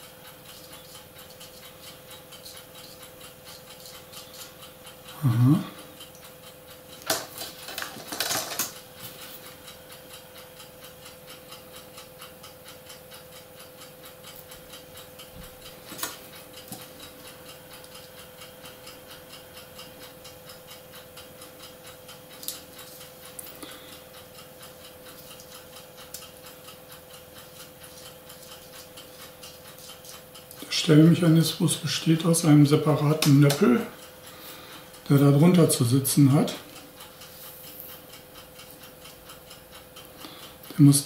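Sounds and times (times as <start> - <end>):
faint steady hum: 0.0 - 41.0
steady ticking: 0.0 - 41.0.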